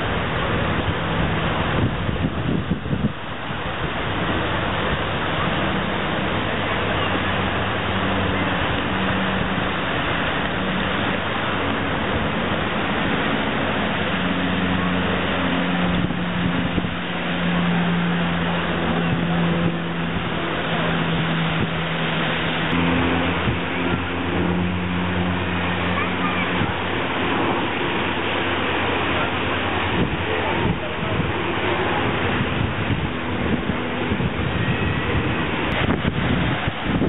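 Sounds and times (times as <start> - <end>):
propeller aircraft droning overhead: 0.0 - 37.0.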